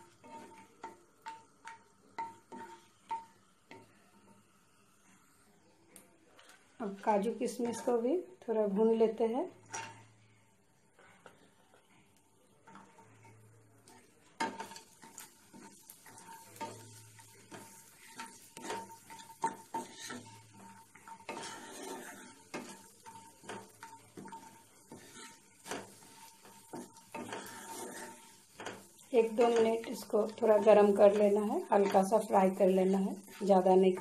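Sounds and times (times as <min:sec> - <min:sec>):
wooden spatula scraping a pan: 0:00.0 - 0:04.4, 0:06.4 - 0:08.2, 0:09.6 - 0:10.2, 0:12.6 - 0:34.0
light frying sizzle: 0:00.0 - 0:34.0.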